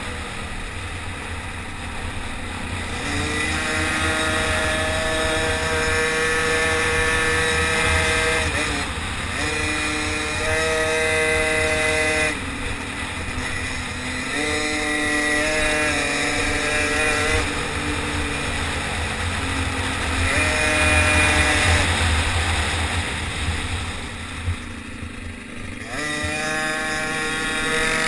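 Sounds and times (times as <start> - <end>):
small engine revving hard: 2.6 - 24.8, 25.4 - 28.0.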